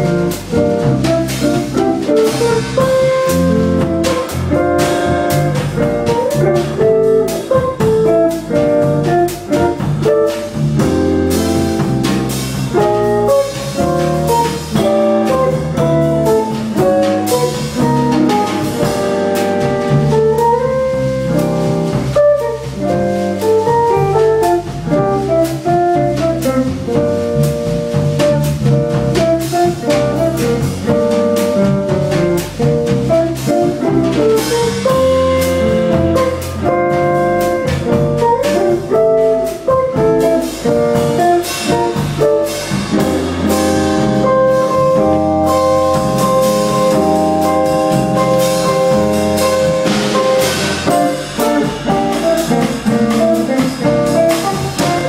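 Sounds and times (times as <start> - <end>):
drum kit with cymbals: 0.0 - 55.0
electric bass: 0.0 - 55.0.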